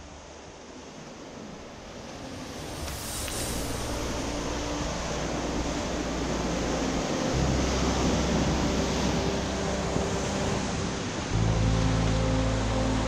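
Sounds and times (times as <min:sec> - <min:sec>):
low rumble: 0:01.4 - 0:13.0.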